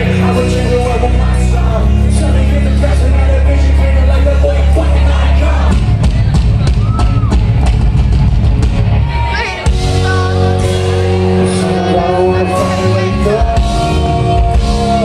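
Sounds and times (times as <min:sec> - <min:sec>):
live rock-rap band with singing: 0:00.0 - 0:15.0.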